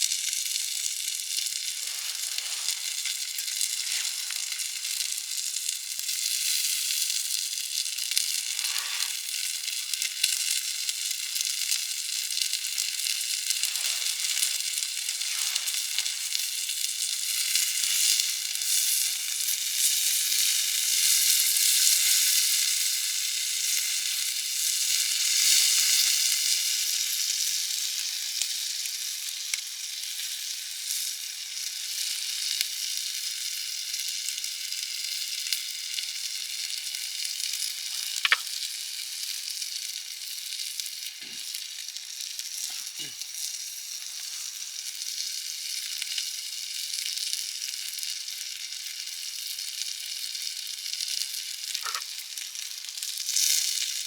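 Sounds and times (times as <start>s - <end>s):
food sizzling: 0.0s - 54.0s.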